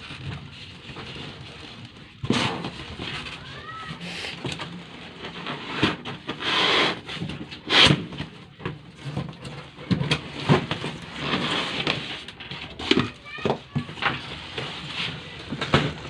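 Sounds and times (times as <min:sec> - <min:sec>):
packaging rustling and scraping: 0:00.0 - 0:16.0.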